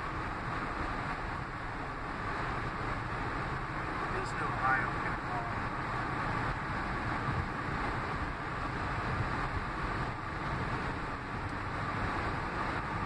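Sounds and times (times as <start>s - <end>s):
road and tyre noise: 0.0s - 13.0s
wind: 0.0s - 13.0s.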